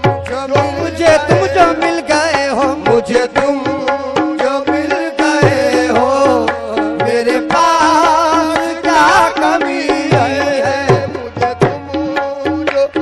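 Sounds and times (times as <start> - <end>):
devotional song: 0.0 - 13.0
tabla beats: 0.0 - 13.0.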